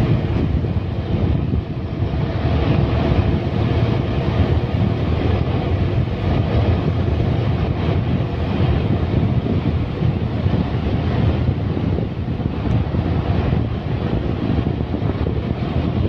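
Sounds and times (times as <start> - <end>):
vehicle running noise: 0.0 - 16.0
wind buffeting microphone: 0.0 - 16.0.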